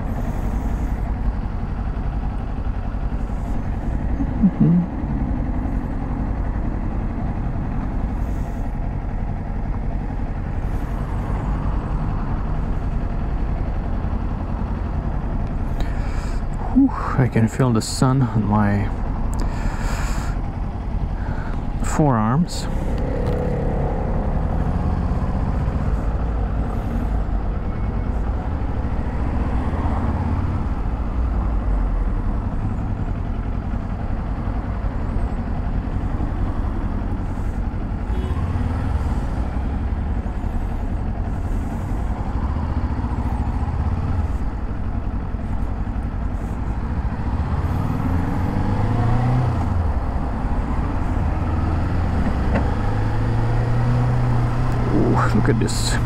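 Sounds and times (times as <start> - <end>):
motorcycle engine running: 0.0 - 17.2, 18.3 - 56.0
road and wind noise: 0.0 - 56.0.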